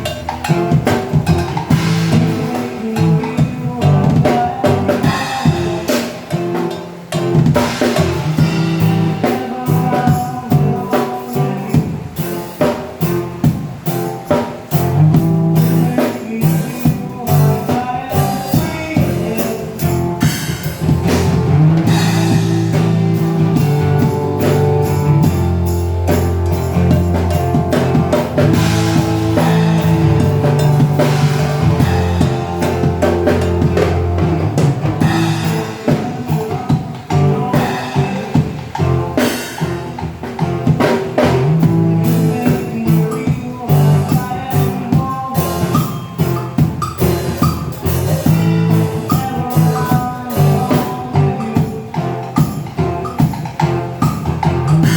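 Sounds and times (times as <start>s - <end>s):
band playing through sound system: 0.0s - 54.9s
drum kit beat: 0.0s - 54.9s.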